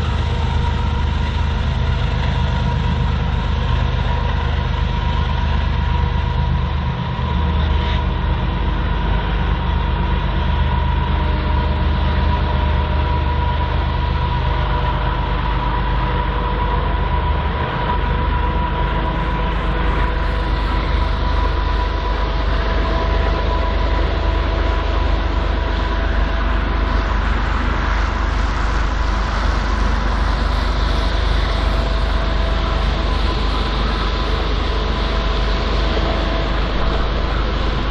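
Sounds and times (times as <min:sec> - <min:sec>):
freight train rumbling: 0:00.0 - 0:37.9.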